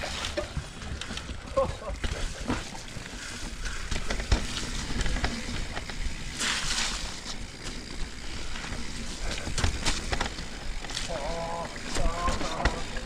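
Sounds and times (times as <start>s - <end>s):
bike tyres knocking over roots: 0.0s - 13.0s
bike rattling clicks: 2.0s - 13.0s.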